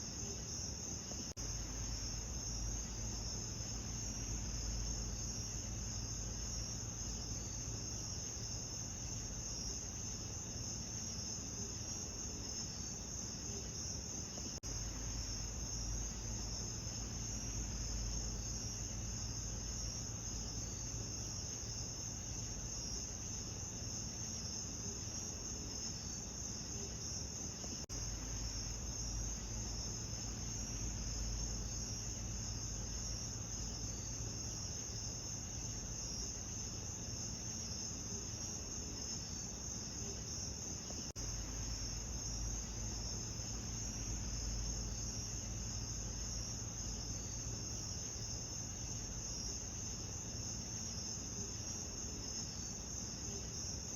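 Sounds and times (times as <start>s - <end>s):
background hiss: 0.0s - 53.9s
crickets chirping: 0.0s - 53.9s.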